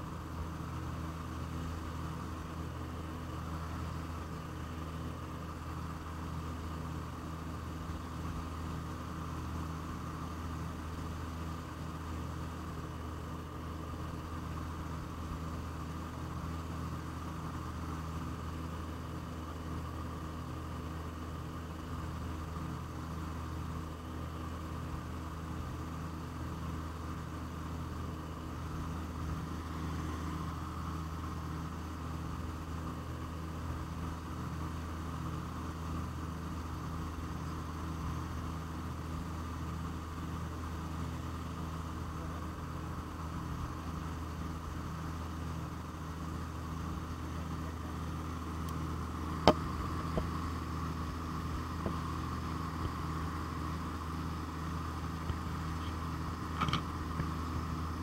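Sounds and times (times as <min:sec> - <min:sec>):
propeller plane engines droning: 0:00.0 - 0:58.0.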